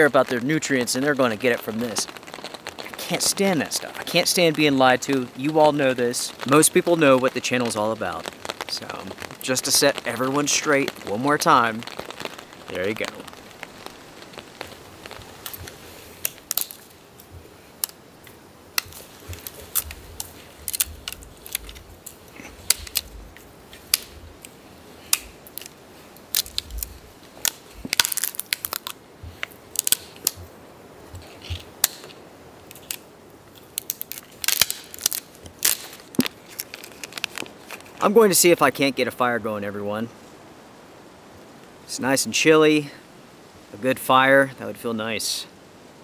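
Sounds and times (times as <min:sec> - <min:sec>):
dead wood cracking and snapping: 0:00.0 - 0:38.1
twigs crunching underfoot: 0:00.0 - 0:38.1.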